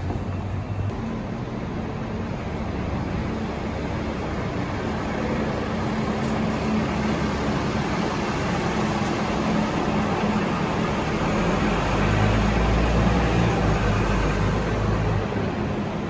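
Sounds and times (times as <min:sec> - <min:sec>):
bus engine humming: 0:00.0 - 0:16.0
road noise: 0:00.0 - 0:16.0.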